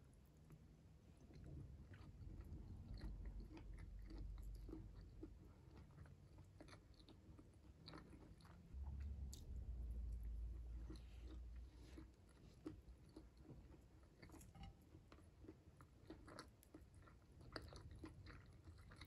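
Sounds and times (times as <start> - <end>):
close chewing and biting: 0.3 - 19.0.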